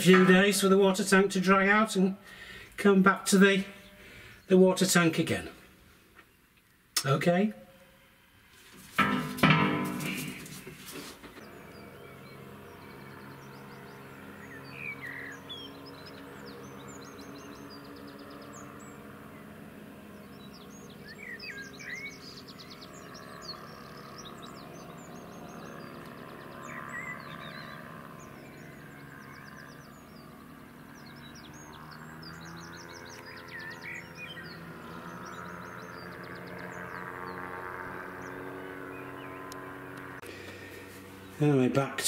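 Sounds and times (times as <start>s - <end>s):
paraglider engines droning: 0.0s - 42.0s
small birds chirping: 0.0s - 42.0s.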